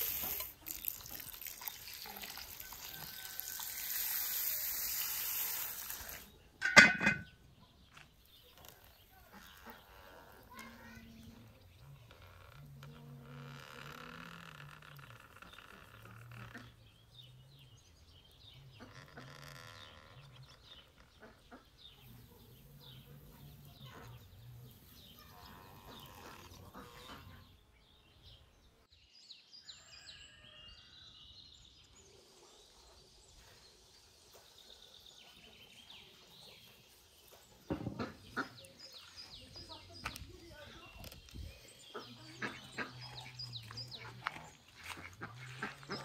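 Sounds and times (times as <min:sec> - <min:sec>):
small birds chirping: 0:00.0 - 0:06.6, 0:07.2 - 0:46.0.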